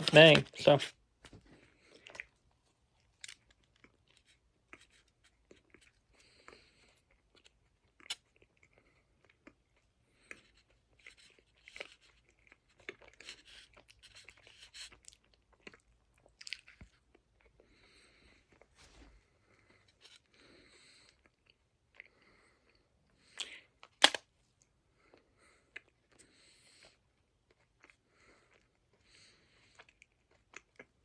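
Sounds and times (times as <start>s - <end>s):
person chewing: 1.6s - 24.1s, 25.0s - 31.0s.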